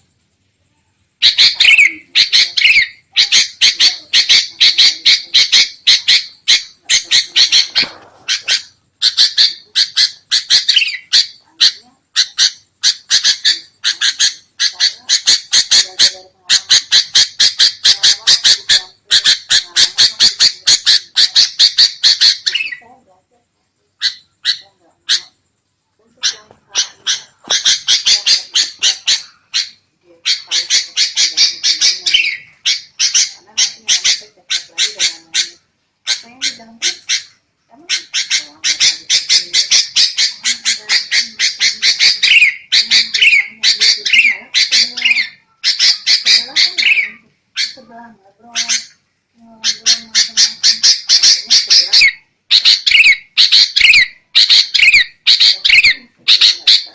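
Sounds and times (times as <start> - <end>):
bulbul chattering calls: 1.2 - 22.9, 24.0 - 25.4, 26.2 - 49.0, 49.6 - 56.9.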